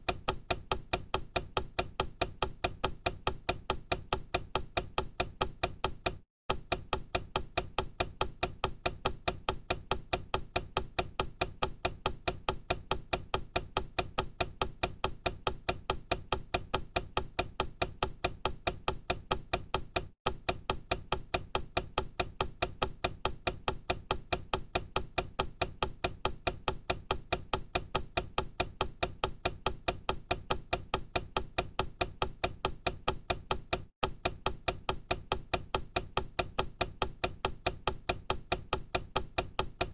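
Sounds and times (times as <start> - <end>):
clock ticking fast: 0.0 - 39.9.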